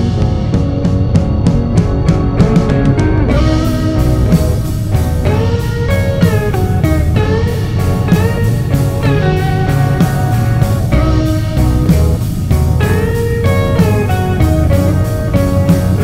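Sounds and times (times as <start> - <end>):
electric guitar bending notes: 0.0 - 16.0
steady beat: 0.0 - 16.0.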